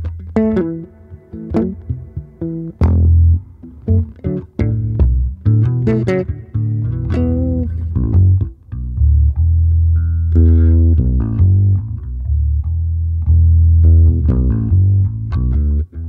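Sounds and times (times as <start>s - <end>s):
electric bass playing: 0.0s - 16.0s.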